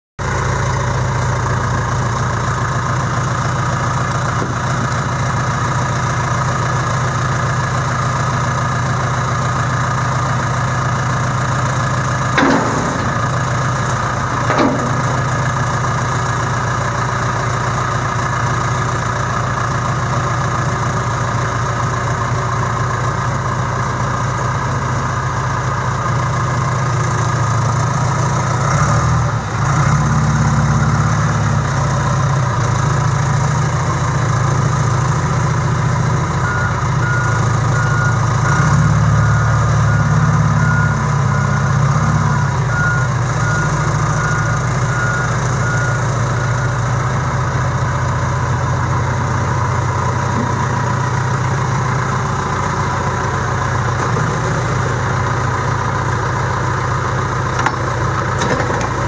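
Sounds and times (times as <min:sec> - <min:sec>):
diesel engine idling: 0:00.2 - 0:59.0.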